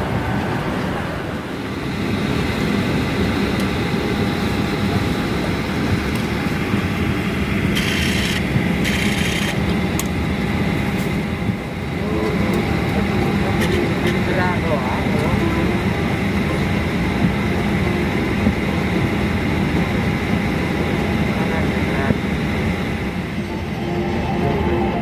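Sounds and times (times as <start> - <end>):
aircraft cabin ventilation hum: 0.0 - 25.0.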